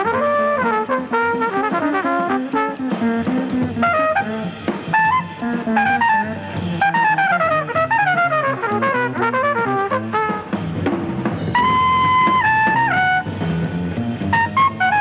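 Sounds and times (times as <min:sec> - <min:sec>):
bass line: 0:00.0 - 0:15.0
jazz trumpet solo: 0:00.0 - 0:15.0.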